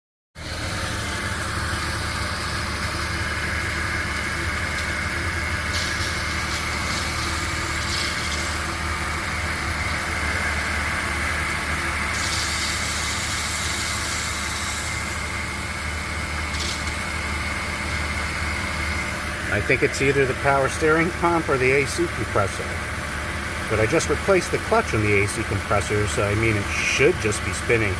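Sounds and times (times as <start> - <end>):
car engine idling: 0.4 - 27.9
high belt whine: 0.6 - 27.9.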